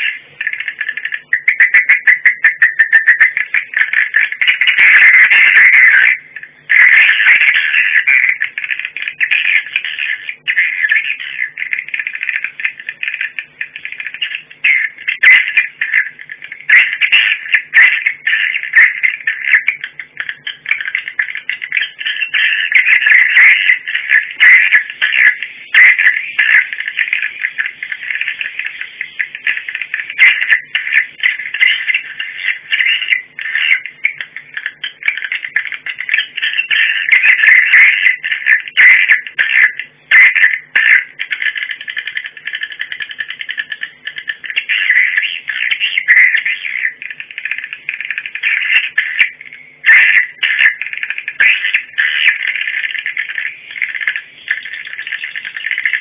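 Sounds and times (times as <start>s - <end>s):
recorded bird twittering over loudspeakers: 0.0s - 56.0s
sharp clicks: 0.0s - 56.0s.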